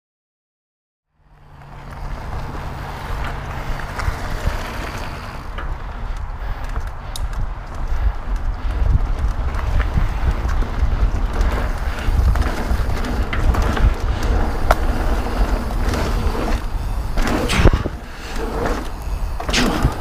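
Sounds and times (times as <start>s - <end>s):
bike tyres rolling over dirt: 1.2s - 20.0s
bike clicks and rattles: 1.3s - 20.0s.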